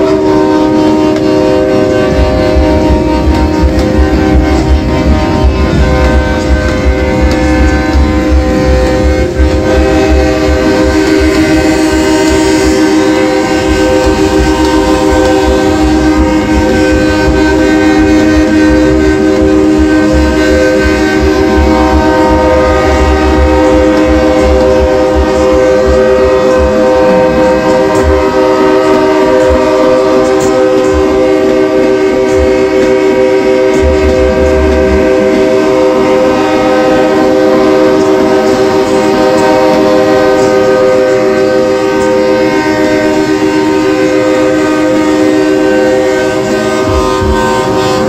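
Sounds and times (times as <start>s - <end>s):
truck air horns blowing: 0.0s - 48.0s.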